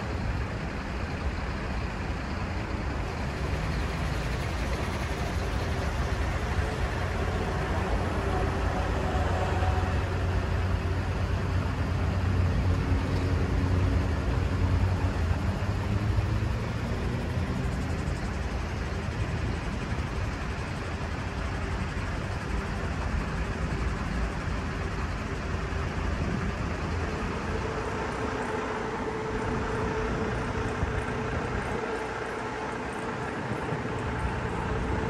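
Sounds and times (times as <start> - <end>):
traffic engine rumble: 0.0 - 35.0.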